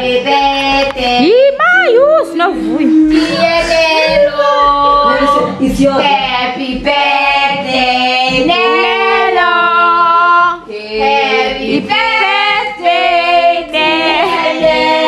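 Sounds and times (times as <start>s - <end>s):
women singing: 0.0s - 15.0s.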